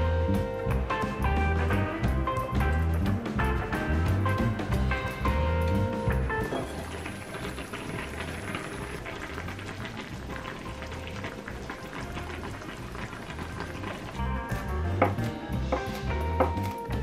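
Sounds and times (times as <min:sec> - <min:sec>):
broth simmering with bubbles popping: 0:02.0 - 0:17.0.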